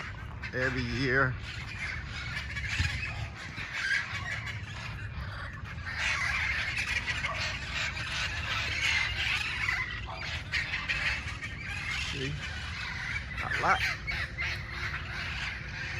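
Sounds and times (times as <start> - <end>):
parrots squawking and screeching: 0.0 - 15.9.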